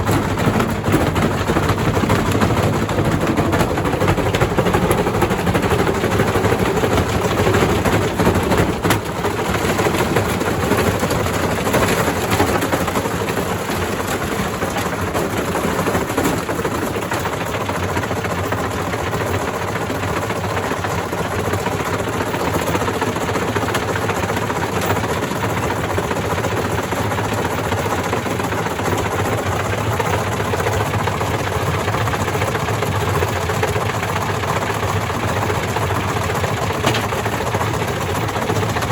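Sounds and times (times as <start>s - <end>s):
washer drum rumbling: 0.0s - 38.9s.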